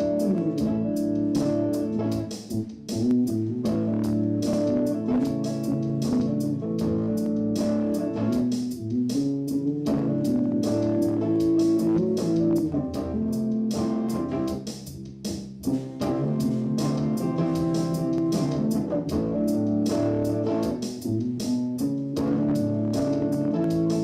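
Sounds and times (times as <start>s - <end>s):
electric guitar: 0.0s - 15.0s, 15.6s - 24.0s
bass guitar: 0.0s - 24.0s
steady beat: 0.0s - 24.0s.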